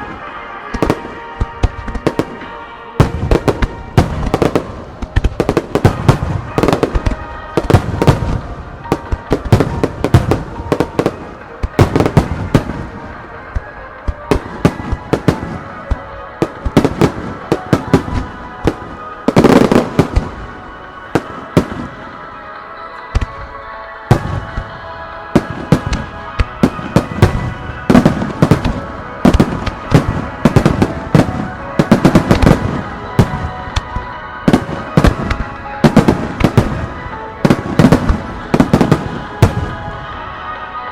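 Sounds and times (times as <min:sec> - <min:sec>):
fireworks bursting with booms: 0:00.0 - 0:22.2, 0:23.1 - 0:23.5, 0:24.1 - 0:40.2
music playing: 0:00.0 - 0:40.9.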